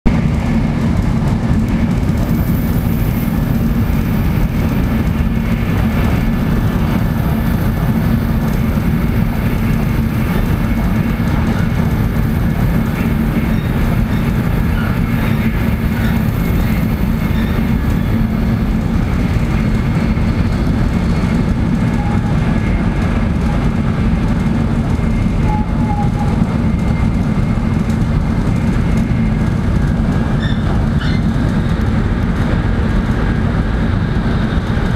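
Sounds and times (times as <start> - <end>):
train rumbling at speed: 0.0 - 34.9
constant low hum: 0.1 - 34.9.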